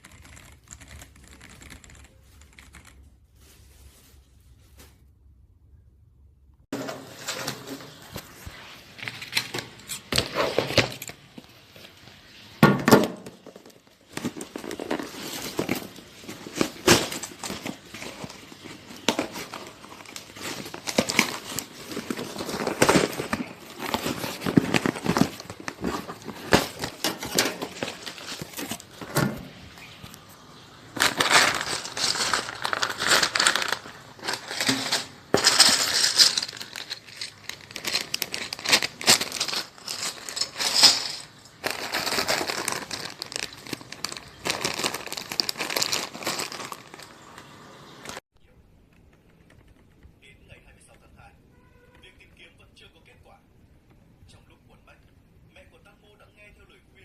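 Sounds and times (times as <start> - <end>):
plastic crinkling and rustling: 0.0 - 5.2, 6.7 - 48.2.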